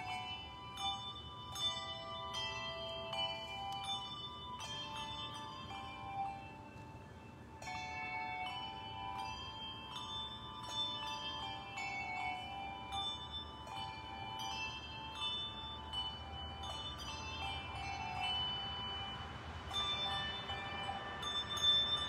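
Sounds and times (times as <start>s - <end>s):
handbells ringing: 0.0s - 22.0s.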